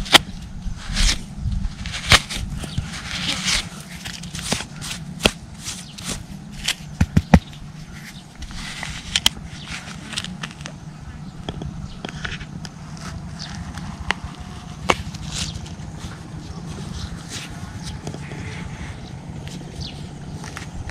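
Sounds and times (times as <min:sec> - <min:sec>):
fingers scraping dry soil: 0:00.0 - 0:10.8, 0:12.0 - 0:20.9.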